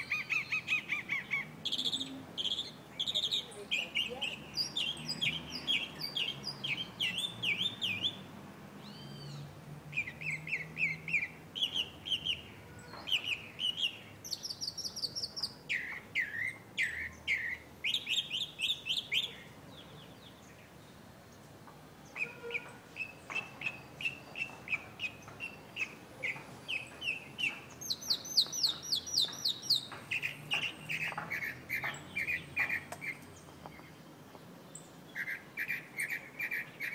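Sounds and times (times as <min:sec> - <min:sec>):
mockingbird singing: 0:00.0 - 0:36.9.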